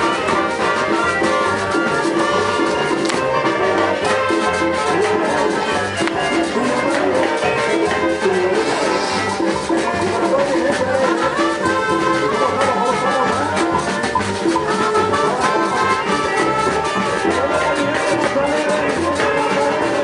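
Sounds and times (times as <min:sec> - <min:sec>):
brass band latin dance music: 0:00.0 - 0:20.0.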